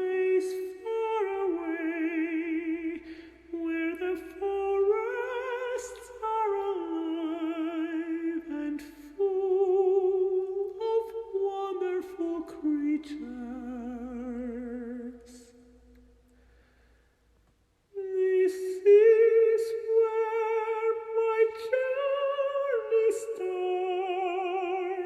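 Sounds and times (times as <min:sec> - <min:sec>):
high voice singing wordless melody: 0:00.0 - 0:15.7, 0:17.9 - 0:25.0.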